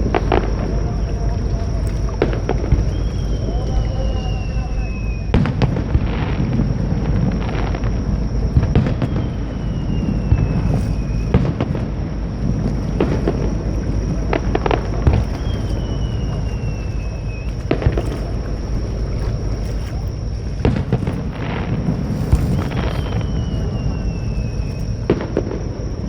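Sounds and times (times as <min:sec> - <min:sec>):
fireworks bangs and crackles: 0:00.0 - 0:19.6, 0:20.2 - 0:26.0
low rumble: 0:00.0 - 0:26.0
whistling firework shells: 0:00.0 - 0:26.0.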